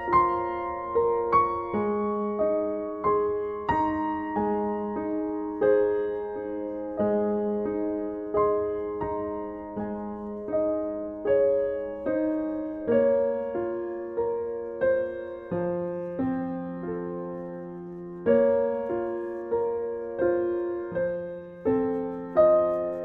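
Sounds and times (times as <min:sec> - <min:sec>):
gentle piano chords: 0:00.0 - 0:23.0.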